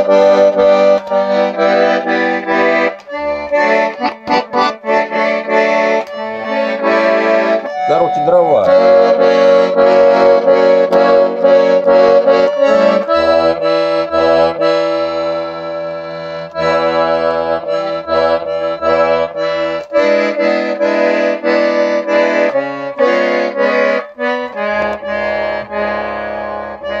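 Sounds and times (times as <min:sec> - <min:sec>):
accordion bass notes: 0:00.0 - 0:27.0
out-of-tune button accordion: 0:00.0 - 0:27.0.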